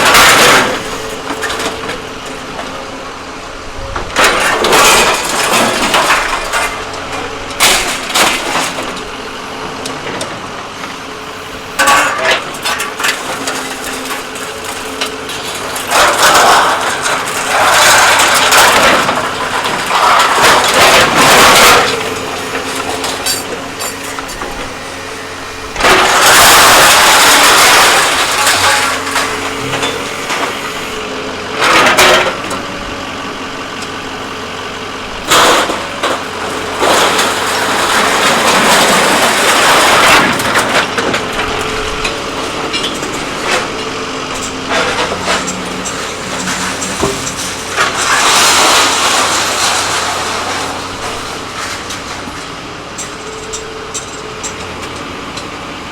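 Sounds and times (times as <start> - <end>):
heavy machine engine running: 0.0 - 55.9.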